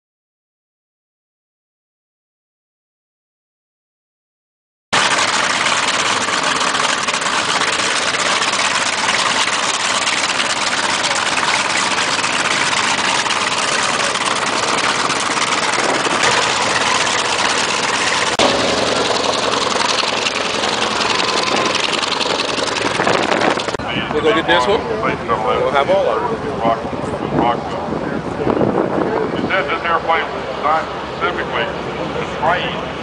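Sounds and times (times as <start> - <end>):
jet engine whine: 5.0 - 33.0.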